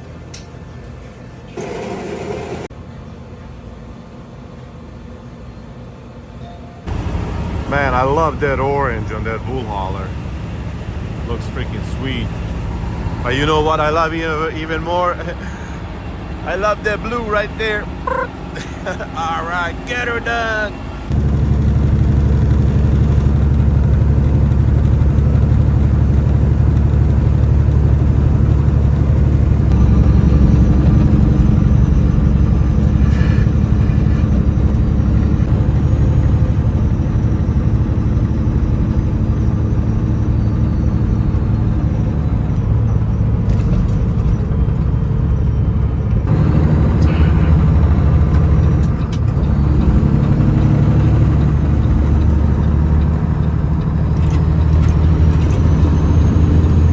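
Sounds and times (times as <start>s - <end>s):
truck diesel engine drone: 0.0s - 56.9s.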